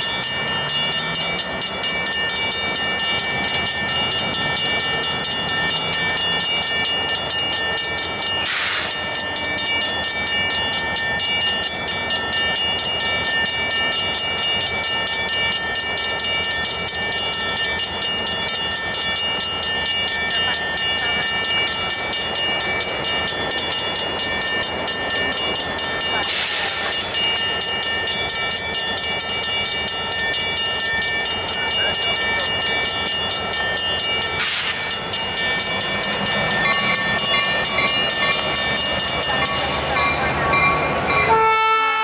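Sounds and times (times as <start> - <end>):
railroad crossing bell ringing: 0.0 - 42.0.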